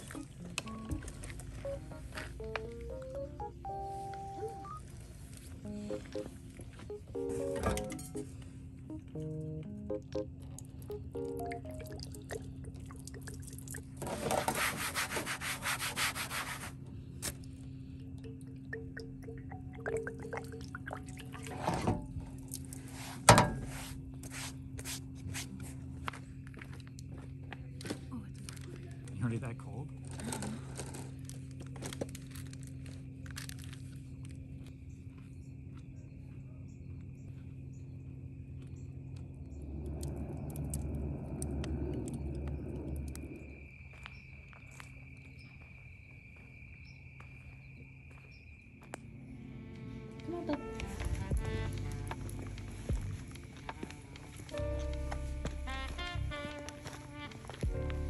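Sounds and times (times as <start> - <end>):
steady low hum: 0.0 - 44.6, 48.9 - 58.0
crickets trilling: 10.4 - 23.0, 23.9 - 58.0.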